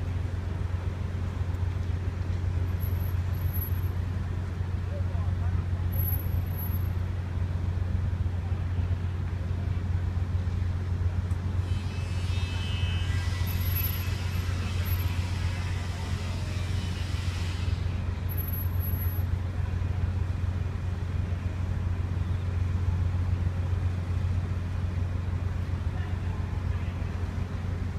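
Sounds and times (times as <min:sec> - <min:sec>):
ferry engines droning: 0:00.0 - 0:27.9.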